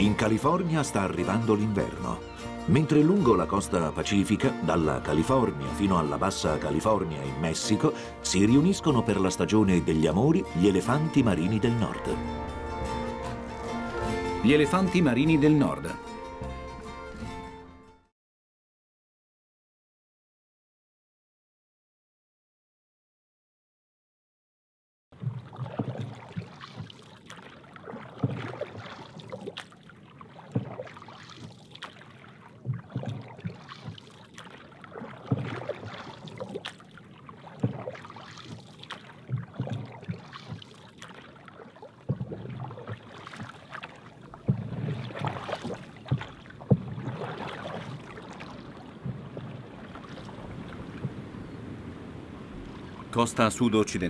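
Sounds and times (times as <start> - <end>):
water splashing against canoe hull: 0.0 - 16.8, 25.2 - 54.0.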